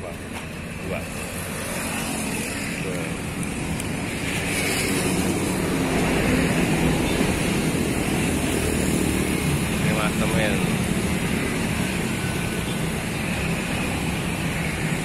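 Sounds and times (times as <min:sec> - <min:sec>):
car engines passing: 0:00.0 - 0:15.0.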